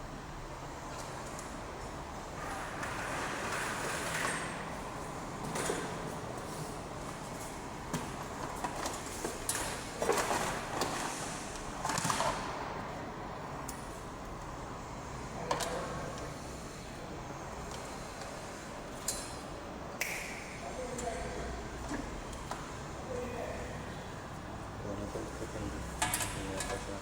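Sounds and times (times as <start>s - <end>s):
background noise: 0.0s - 27.0s.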